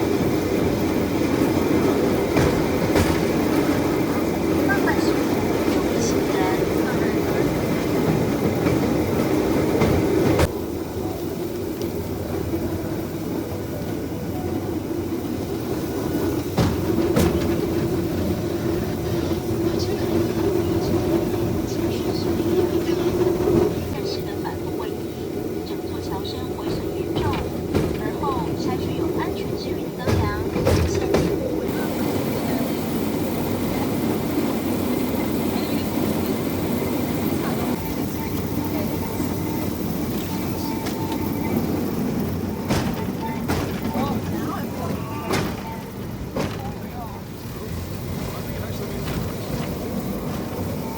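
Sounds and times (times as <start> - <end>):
rail bike wheels rumbling on rails: 0.0 - 50.9.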